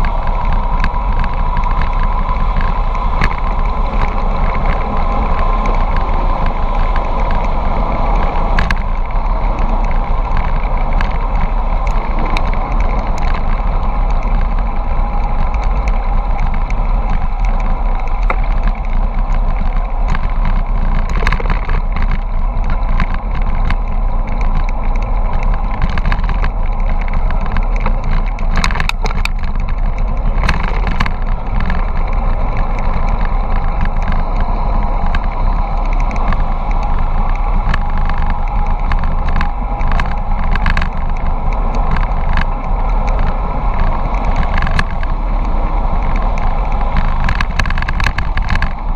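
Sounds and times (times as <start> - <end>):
tyre noise on asphalt: 0.0 - 48.9
wind rushing over microphone: 0.0 - 48.9.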